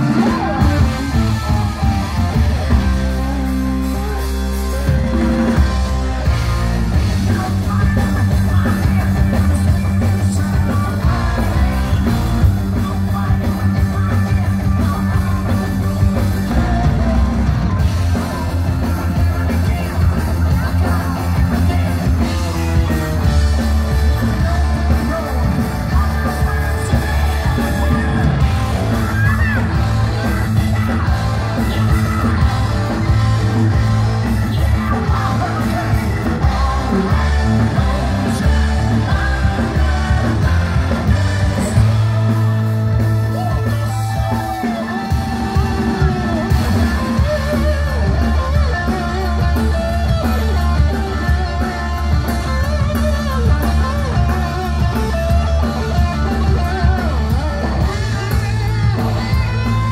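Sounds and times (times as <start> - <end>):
bass guitar: 0.0 - 59.9
distorted electric guitar: 0.0 - 59.9
drum kit: 0.0 - 59.9
person singing lead vocal: 0.0 - 59.9.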